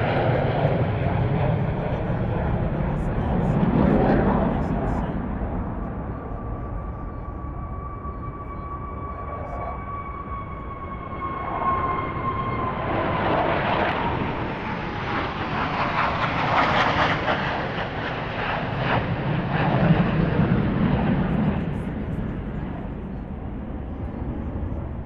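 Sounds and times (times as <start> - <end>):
jet engine whine: 0.0 - 25.0
jet noise roar: 0.0 - 25.0.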